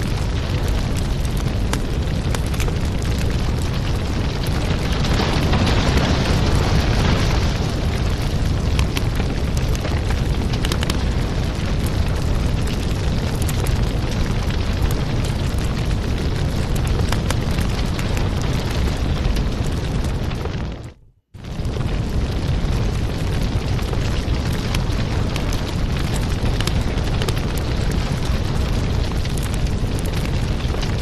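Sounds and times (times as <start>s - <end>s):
fire crackles and pops: 0.0s - 31.0s
fireplace fire rumbling: 0.0s - 31.0s.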